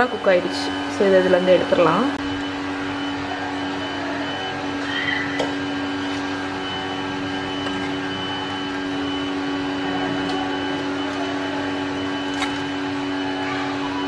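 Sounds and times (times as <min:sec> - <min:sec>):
appliance motor hum: 0:00.0 - 0:14.0.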